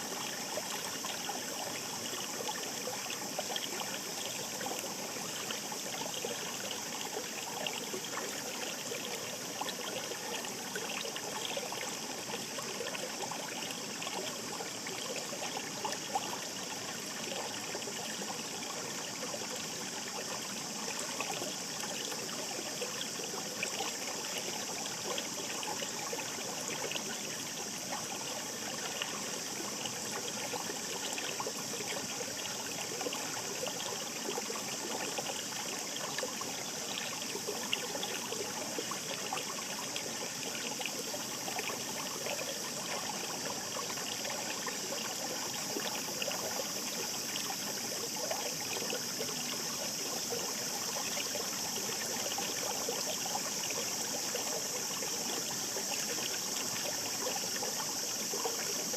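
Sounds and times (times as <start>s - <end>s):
stream babbling over rocks: 0.0s - 58.9s.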